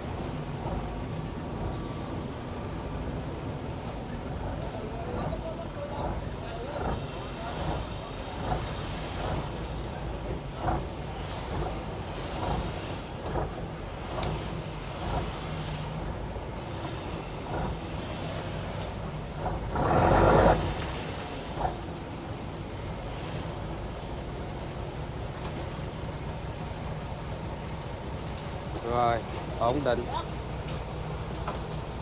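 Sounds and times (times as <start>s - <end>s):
boat diesel engine humming: 0.0s - 32.0s.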